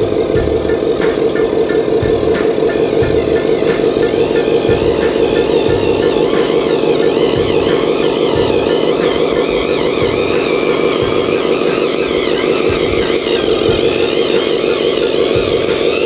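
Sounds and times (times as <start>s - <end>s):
loud motor drone: 0.0s - 16.0s
wavering high whine: 0.0s - 16.0s.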